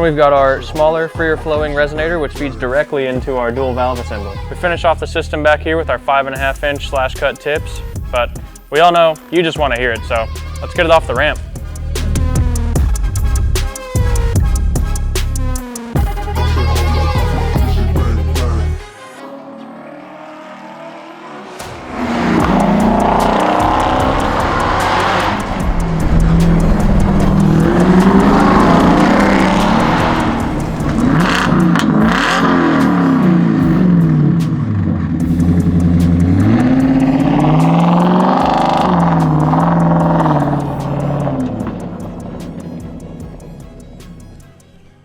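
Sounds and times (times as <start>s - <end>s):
truck engine revving: 3.5s - 45.0s.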